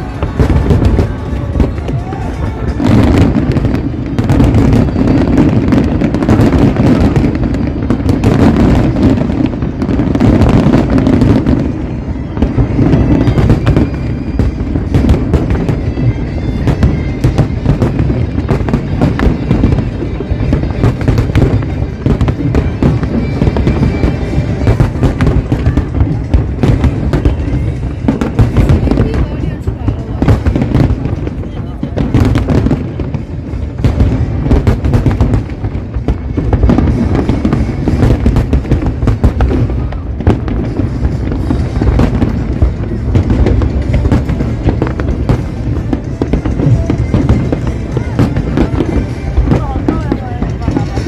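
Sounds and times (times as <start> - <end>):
fireworks bangs and crackles: 0.0 - 51.0
music playing: 0.0 - 51.0.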